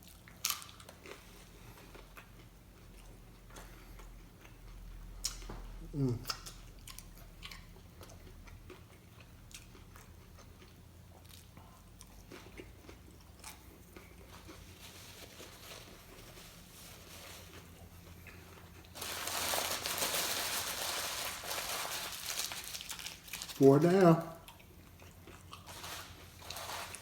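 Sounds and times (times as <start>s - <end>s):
person chewing crunchy food: 0.0s - 20.0s, 20.8s - 23.6s, 24.4s - 27.0s.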